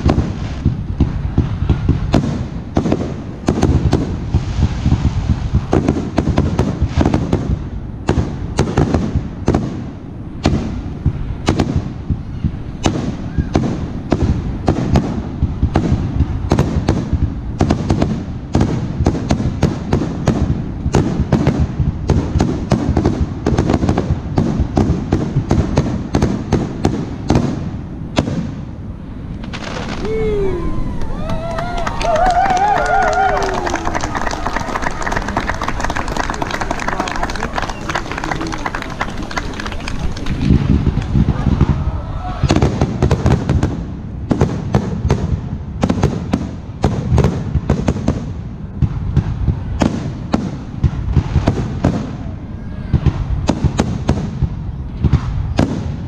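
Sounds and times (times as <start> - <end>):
firework bangs and crackles: 0.0 - 56.0
low rumble: 0.0 - 56.0.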